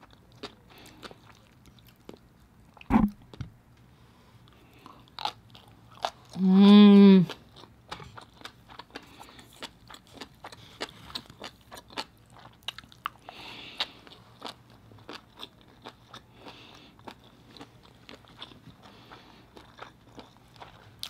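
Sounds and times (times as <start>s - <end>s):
close chewing clicks and crunches: 0.0s - 3.4s, 4.4s - 6.4s, 7.3s - 21.0s.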